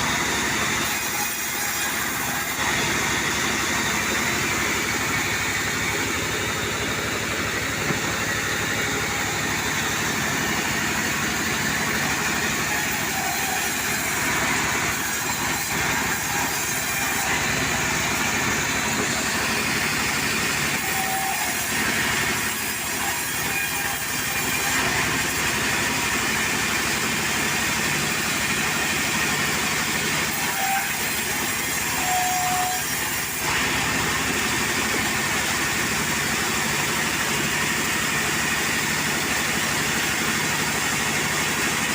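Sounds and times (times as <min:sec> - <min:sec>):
portable sawmill running: 0:00.0 - 0:41.9.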